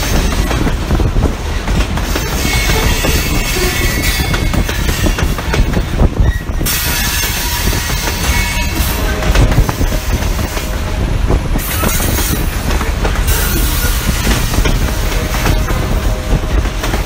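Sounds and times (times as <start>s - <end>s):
freight train rumble: 0.0s - 17.0s
wheels clacking over rail joints: 0.0s - 17.0s.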